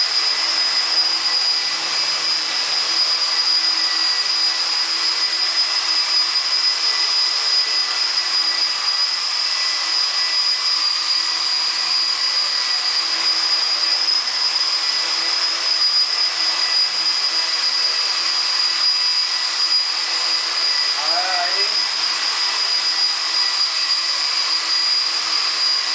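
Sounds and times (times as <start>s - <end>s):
model helicopter motor whine: 0.0s - 25.9s
rotor blades hissing: 0.0s - 25.9s.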